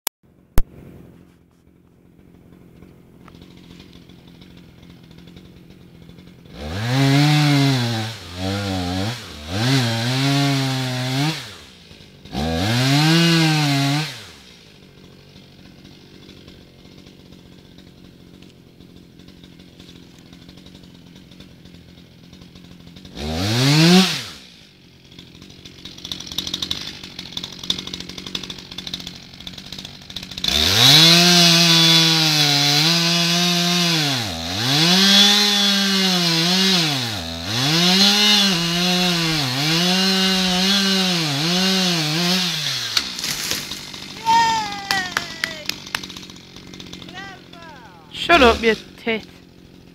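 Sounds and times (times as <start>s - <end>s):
chainsaw revving and cutting: 1.6s - 49.9s.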